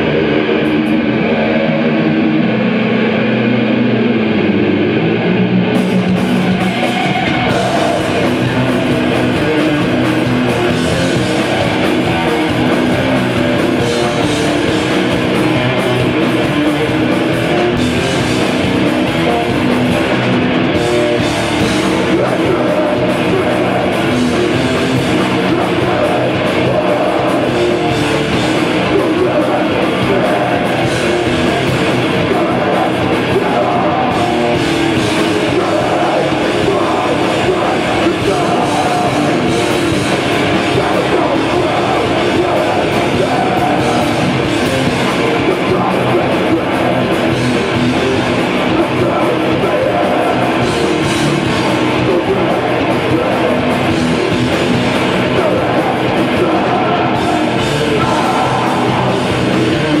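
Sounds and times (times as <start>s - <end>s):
live heavy metal band: 0.0s - 60.0s.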